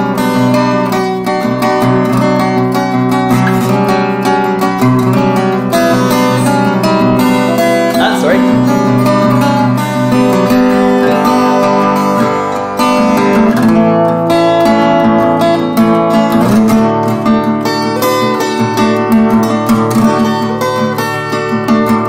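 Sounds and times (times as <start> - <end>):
acoustic guitar chords strummed: 0.0 - 22.0.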